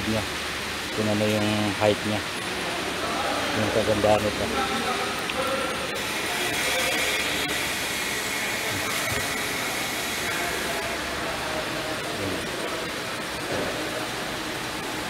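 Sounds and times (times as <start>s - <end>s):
workshop rushing hiss: 0.0s - 15.0s.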